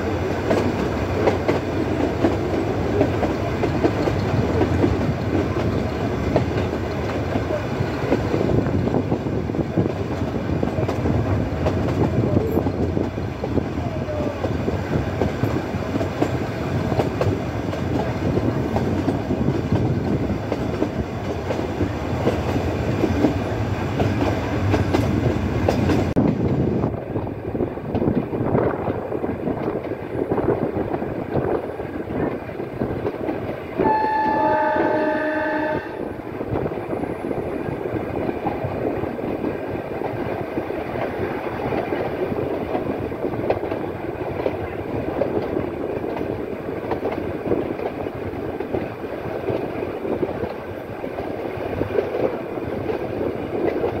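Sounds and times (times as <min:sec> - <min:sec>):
wheels clicking over rail joints: 0:00.0 - 0:33.9, 0:36.3 - 0:54.0
train wheels and carriages clattering: 0:00.0 - 0:35.2, 0:36.1 - 0:54.0.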